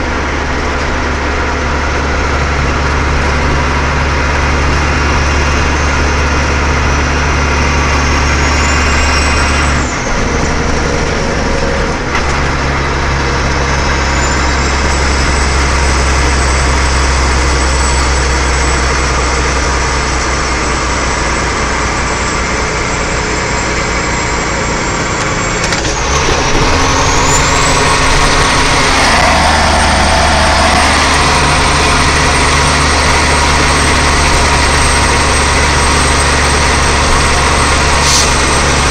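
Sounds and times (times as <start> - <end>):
truck engine drone: 0.0 - 38.9.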